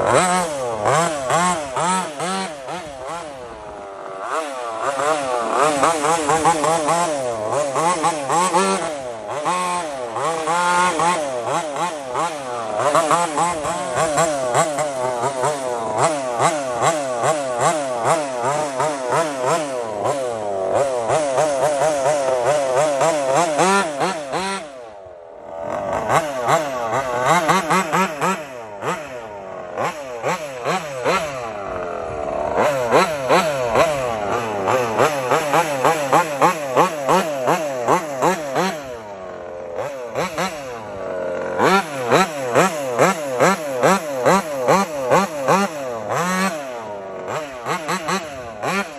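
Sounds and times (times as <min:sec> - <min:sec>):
model car engine revving: 0:00.0 - 0:48.9.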